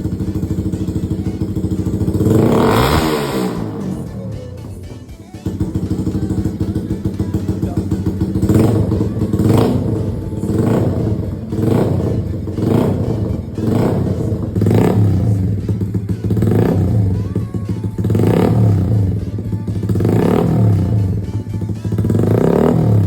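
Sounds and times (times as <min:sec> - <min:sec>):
motorcycle engine burble: 0:00.0 - 0:23.0.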